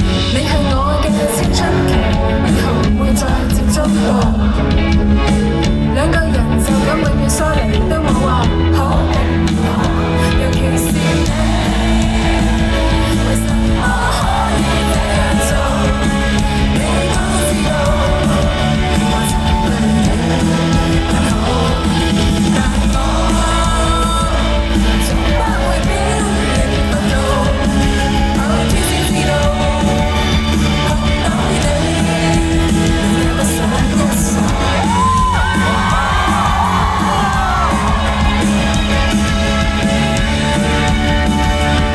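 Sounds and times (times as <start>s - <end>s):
person singing: 0.0s - 4.9s, 5.9s - 39.4s
pop band playing live: 0.0s - 41.9s.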